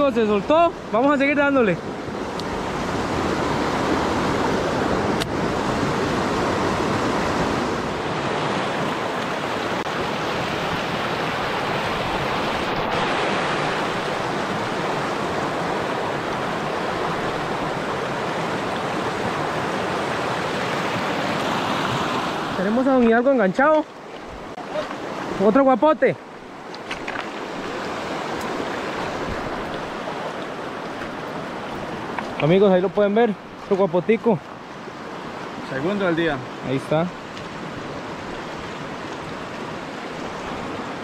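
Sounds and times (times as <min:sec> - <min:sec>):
flowing river water: 0:00.0 - 0:41.0.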